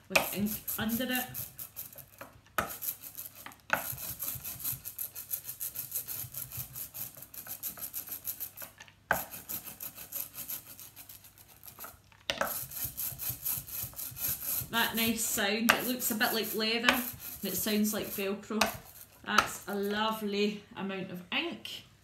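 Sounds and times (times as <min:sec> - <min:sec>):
ink roller crackling rasp: 0:00.0 - 0:20.2.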